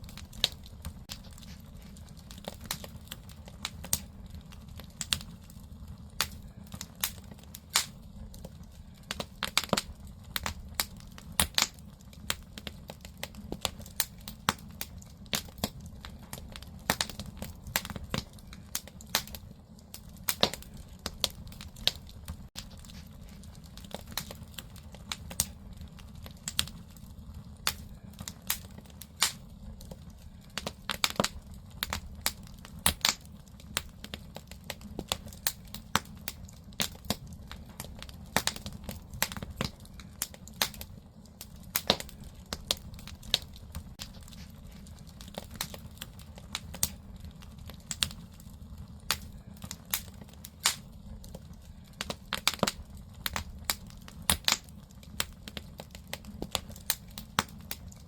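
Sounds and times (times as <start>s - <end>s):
fire low rumble: 0.0s - 58.0s
firewood popping and crackling: 0.0s - 58.0s.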